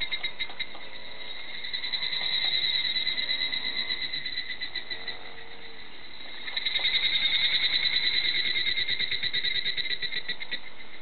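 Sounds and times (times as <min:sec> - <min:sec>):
cicadas trilling: 0:00.0 - 0:11.0.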